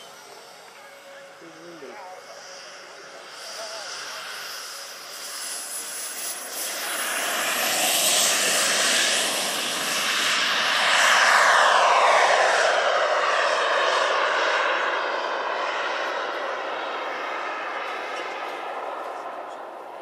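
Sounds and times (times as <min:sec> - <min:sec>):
model jet turbines whining: 0:00.0 - 0:20.0.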